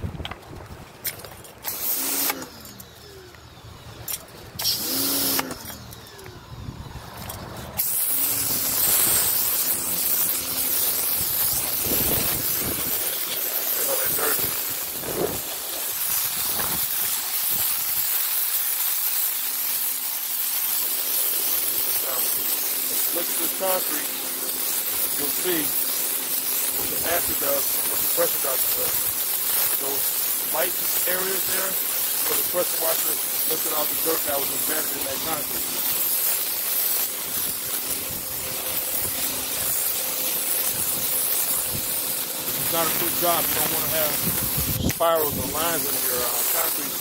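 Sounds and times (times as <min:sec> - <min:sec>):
water jet hissing on concrete: 0:00.2 - 0:06.4, 0:07.1 - 0:47.0
pressure washer motor spinning: 0:01.0 - 0:47.0.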